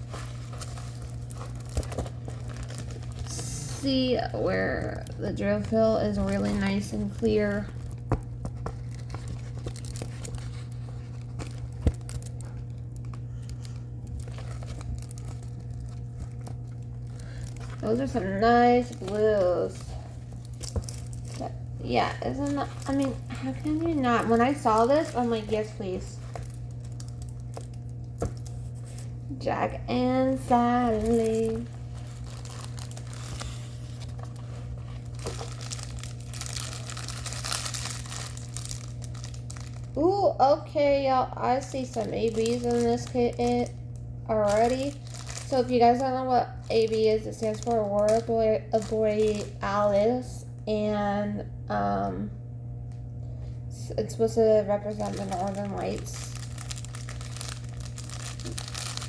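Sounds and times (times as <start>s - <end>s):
plastic bags crinkling: 0.0s - 50.3s, 53.4s - 59.0s
steady low hum: 0.0s - 59.0s.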